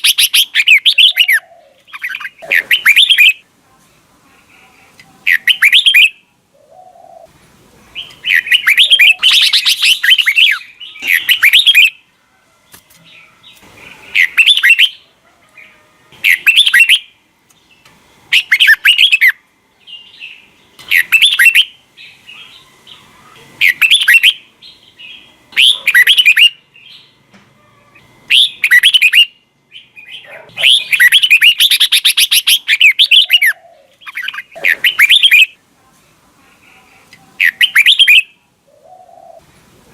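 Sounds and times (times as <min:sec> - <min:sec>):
bird singing warbling phrases: 0:00.0 - 0:03.5, 0:04.4 - 0:07.3, 0:07.9 - 0:12.1, 0:13.1 - 0:35.6, 0:37.3 - 0:39.4.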